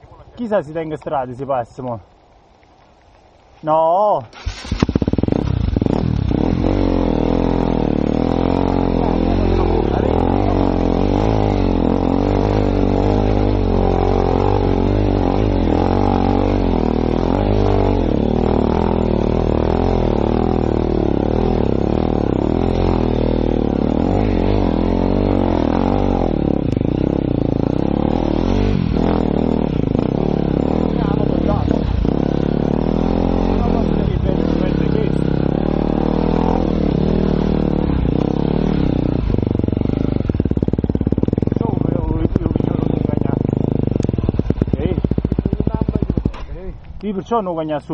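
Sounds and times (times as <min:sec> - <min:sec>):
motorcycle engine revving: 0:04.2 - 0:47.9.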